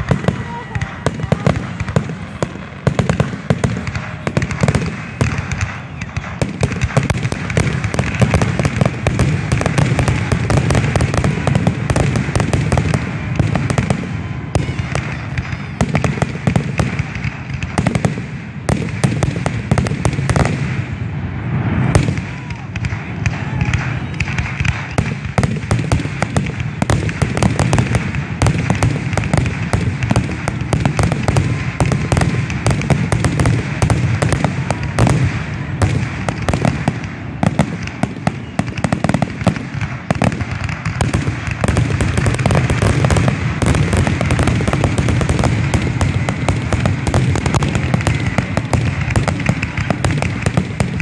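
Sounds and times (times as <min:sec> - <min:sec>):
fireworks booming and crackling: 0:00.0 - 0:51.0.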